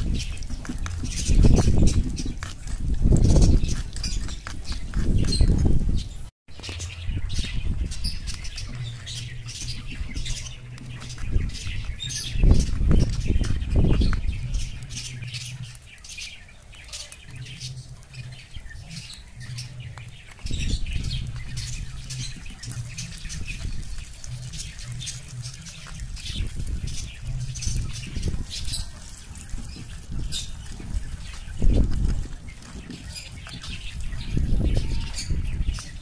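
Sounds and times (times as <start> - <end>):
birds chirping and squawking: 0.0 - 36.0.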